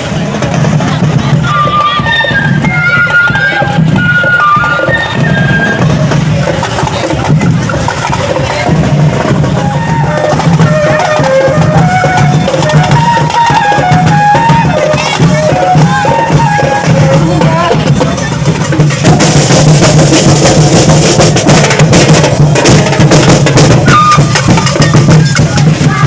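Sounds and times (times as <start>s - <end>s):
drums pounding: 0.0s - 26.0s
street-dance music: 0.0s - 26.0s.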